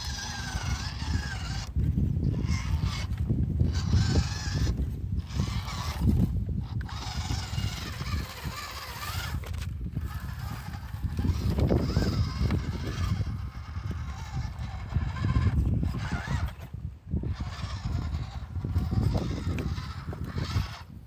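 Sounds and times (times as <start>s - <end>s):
toy car electric motor whining: 0.0s - 21.0s.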